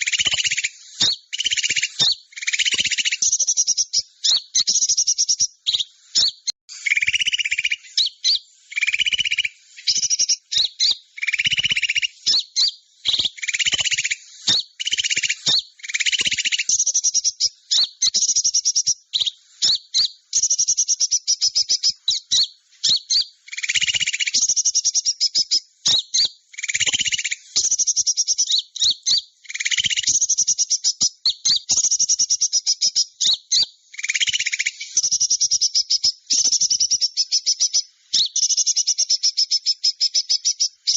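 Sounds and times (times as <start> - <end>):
high chirping trills: 0.0 - 40.9.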